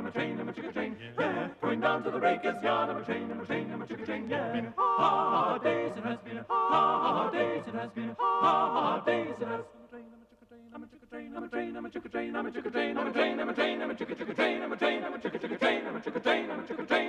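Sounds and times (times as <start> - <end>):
voices singing in harmony: 0.0 - 17.0.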